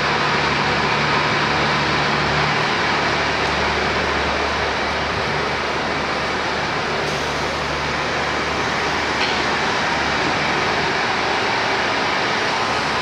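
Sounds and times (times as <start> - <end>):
train rushing noise: 0.0 - 13.0.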